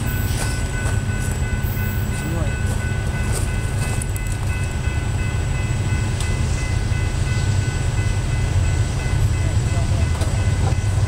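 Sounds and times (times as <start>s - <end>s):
diesel locomotive rumbling: 0.0s - 11.0s.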